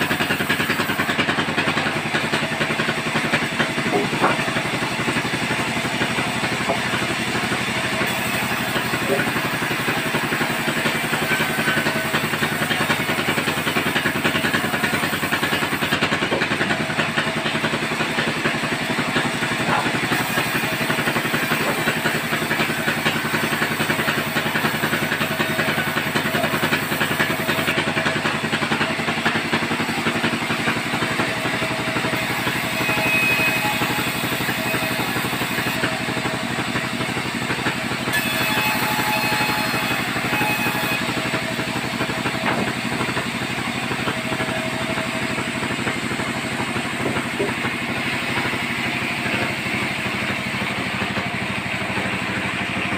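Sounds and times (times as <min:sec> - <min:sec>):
band saw blade cutting wood: 0:00.0 - 0:52.9.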